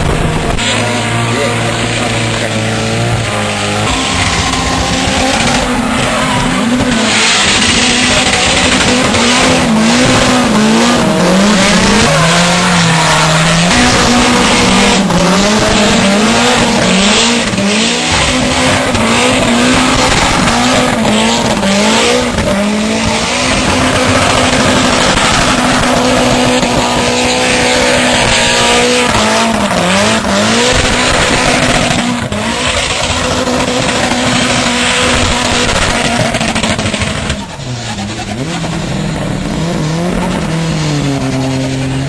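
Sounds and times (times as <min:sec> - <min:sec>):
car engine revving high: 0:00.0 - 0:42.0.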